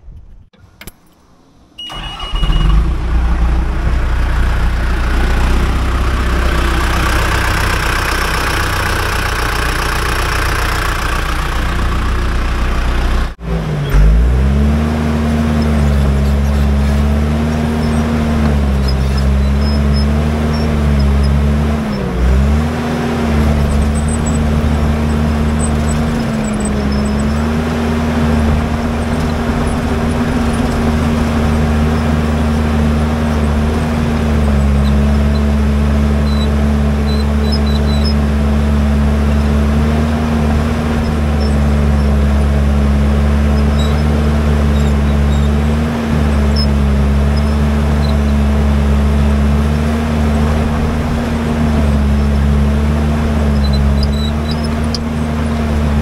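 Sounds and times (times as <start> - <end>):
diesel dozer engine running: 1.6 - 56.0.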